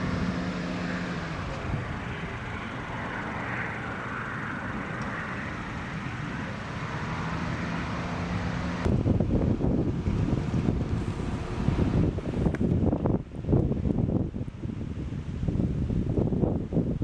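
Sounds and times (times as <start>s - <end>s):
road noise rushing hiss: 0.0s - 16.9s
low engine hum: 0.0s - 17.0s.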